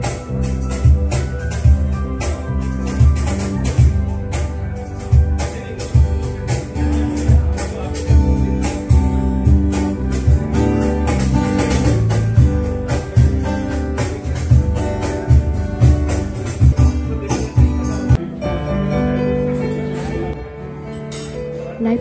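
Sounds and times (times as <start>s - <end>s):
steady percussive beat: 0.0s - 18.2s
music with sustained notes: 0.0s - 22.0s.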